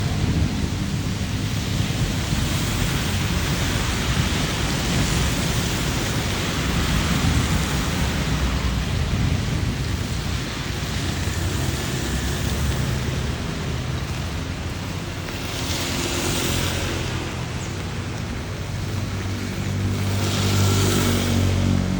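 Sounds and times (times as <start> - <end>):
heavy rain hiss: 0.0 - 21.9.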